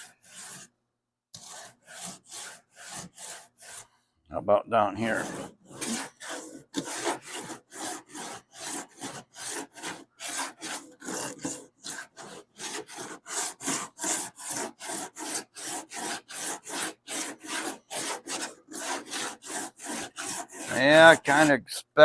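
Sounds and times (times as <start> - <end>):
hand sanding body filler: 0.0 - 0.7, 1.4 - 4.0, 4.8 - 21.6.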